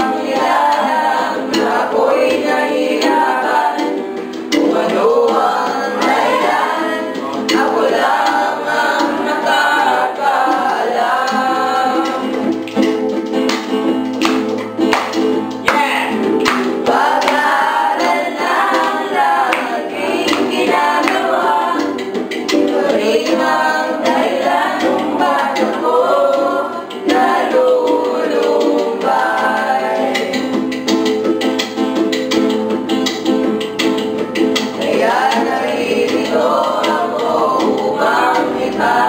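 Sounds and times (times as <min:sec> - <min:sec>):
young voices singing together: 0:00.0 - 0:13.5, 0:14.8 - 0:31.1, 0:34.4 - 0:39.0
strummed ukulele: 0:00.0 - 0:39.0.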